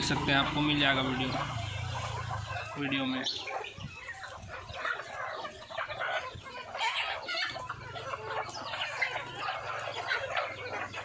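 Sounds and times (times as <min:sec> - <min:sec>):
chickens clucking and squawking: 0:00.0 - 0:11.0.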